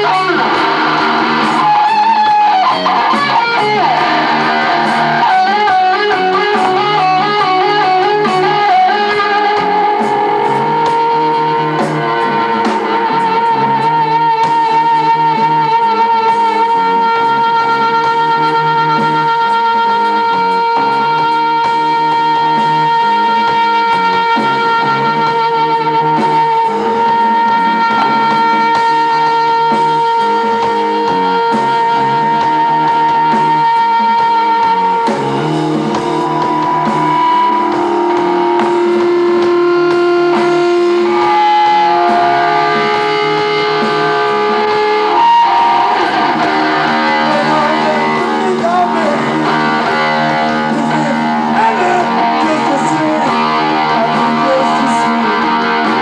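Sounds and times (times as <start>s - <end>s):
rock band with electric guitar: 0.0s - 56.0s.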